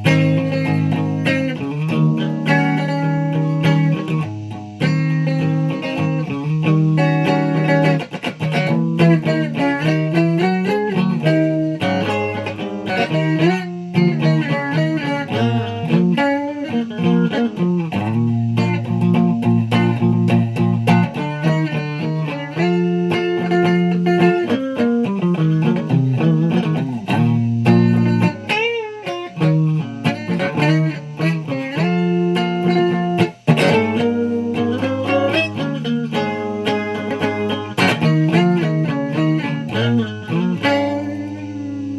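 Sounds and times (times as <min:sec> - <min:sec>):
guitar playing: 0:00.0 - 0:41.9.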